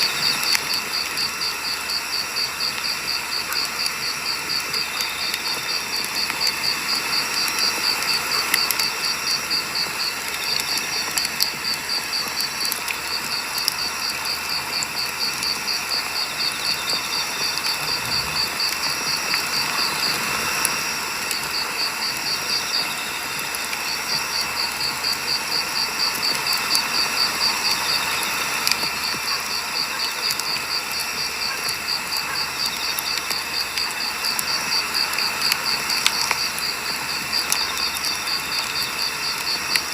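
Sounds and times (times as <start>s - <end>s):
campfire crackling: 0.0s - 39.9s
cricket chirping: 0.0s - 39.9s.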